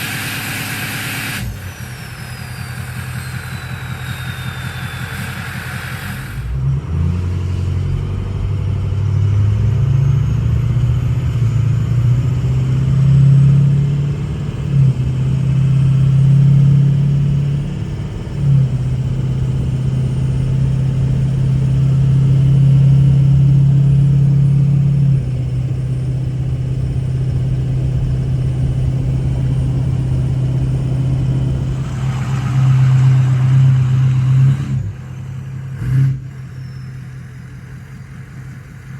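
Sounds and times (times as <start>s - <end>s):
diesel truck engine idling: 0.0s - 11.9s, 17.4s - 38.9s.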